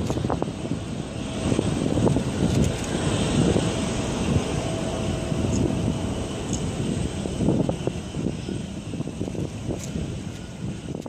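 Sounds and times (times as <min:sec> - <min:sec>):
jet engines rumbling with hiss: 0:00.0 - 0:11.0.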